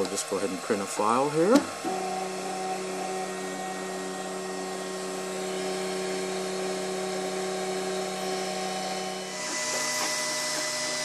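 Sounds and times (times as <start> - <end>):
printer humming: 0.0 - 11.0.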